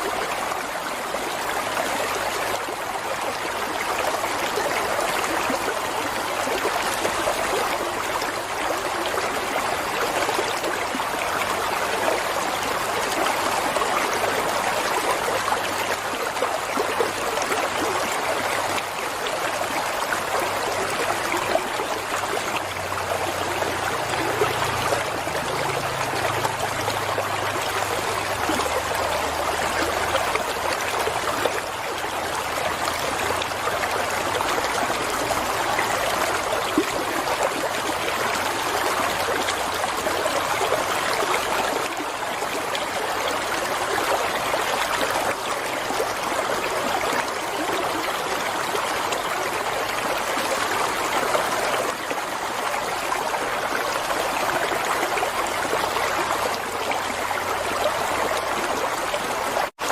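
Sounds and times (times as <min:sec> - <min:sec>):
flowing water splashing: 0:00.0 - 0:59.9.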